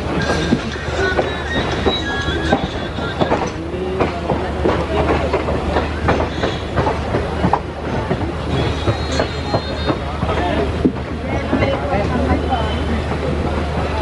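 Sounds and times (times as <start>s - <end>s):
train wheels clattering over rails: 0.0s - 14.0s.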